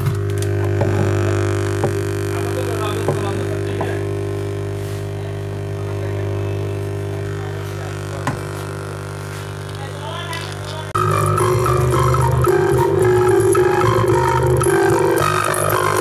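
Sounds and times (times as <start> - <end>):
speaker humming: 0.0 - 16.0.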